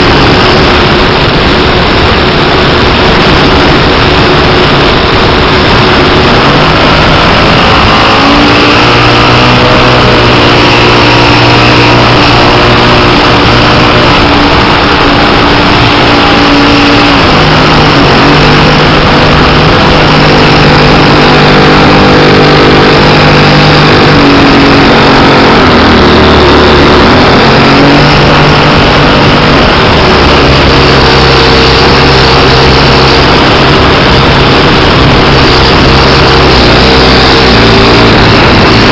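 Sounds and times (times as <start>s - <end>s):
model aircraft engine running: 0.0s - 38.9s
wind rushing on microphone: 0.0s - 38.9s.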